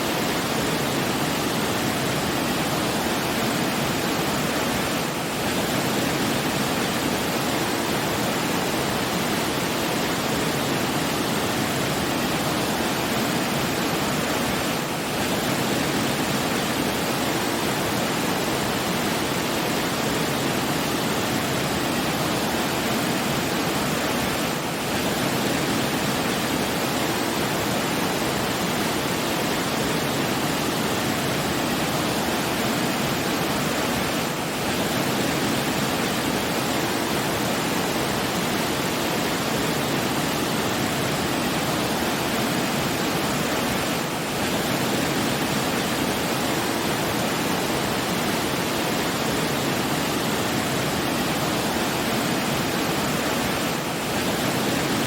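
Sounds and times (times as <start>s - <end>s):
falling water rushing: 0.0s - 55.0s.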